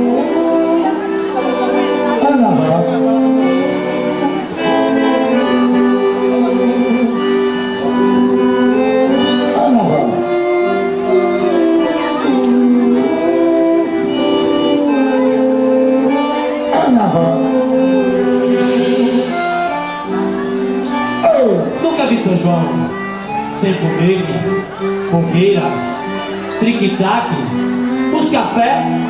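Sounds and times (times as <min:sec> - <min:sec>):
drone-like chord music: 0:00.0 - 0:29.0.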